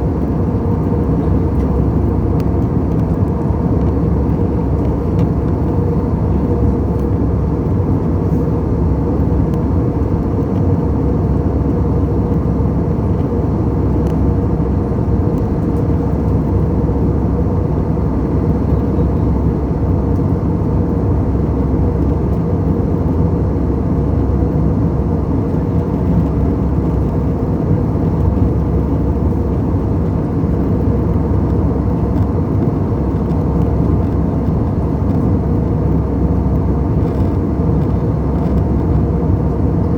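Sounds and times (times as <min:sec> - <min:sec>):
jet airliner rumble: 0:00.0 - 0:39.9.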